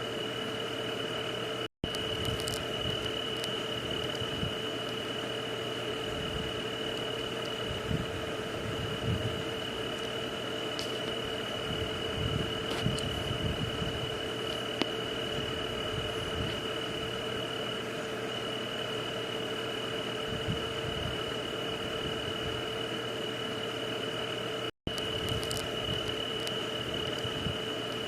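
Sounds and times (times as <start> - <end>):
insect chorus: 0.0 - 28.0.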